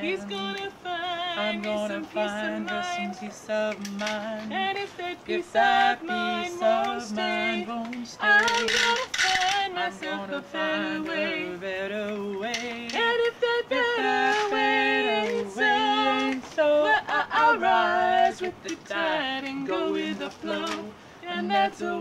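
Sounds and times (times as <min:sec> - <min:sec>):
woman singing with vibrato: 0:00.0 - 0:22.0.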